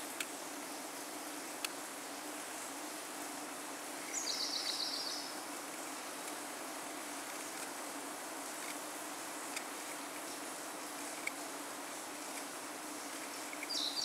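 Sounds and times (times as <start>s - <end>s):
outdoor hiss: 0.0s - 14.0s.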